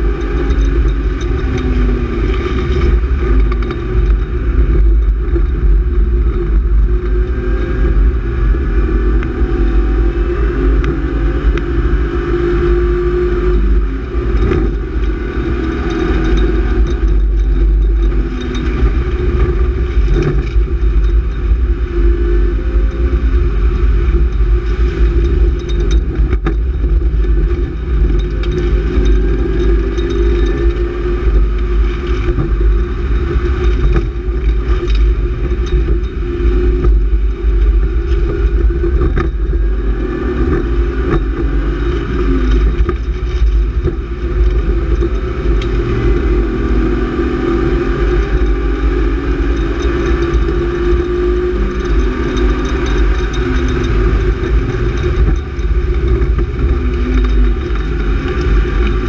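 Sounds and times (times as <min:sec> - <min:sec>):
car engine revving: 0:00.0 - 0:59.0
low road rumble: 0:00.0 - 0:59.0.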